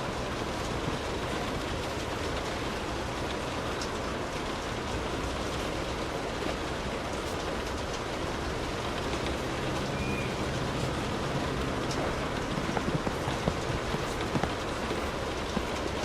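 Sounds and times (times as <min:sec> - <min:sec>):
light rain on car: 0:00.0 - 0:16.0
rain drop ticks: 0:00.0 - 0:16.0.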